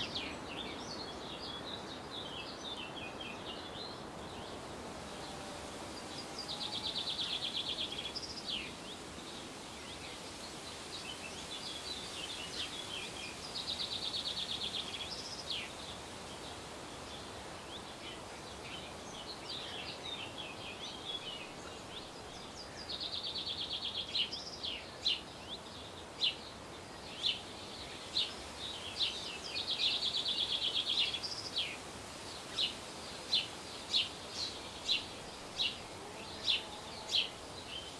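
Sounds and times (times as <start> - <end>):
steady background hiss: 0.0 - 37.9.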